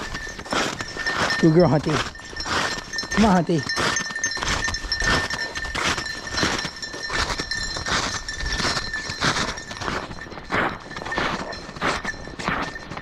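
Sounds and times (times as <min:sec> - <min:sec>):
snowshoe footsteps crunching snow: 0:00.0 - 0:13.0.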